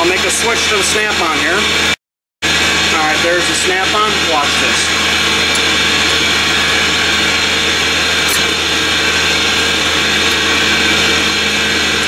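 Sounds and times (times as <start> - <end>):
air compressor hum: 0.0 - 12.0.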